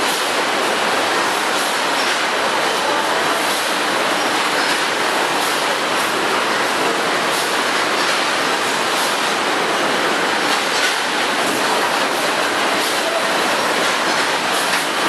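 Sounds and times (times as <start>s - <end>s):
packaging machinery din: 0.0s - 15.0s.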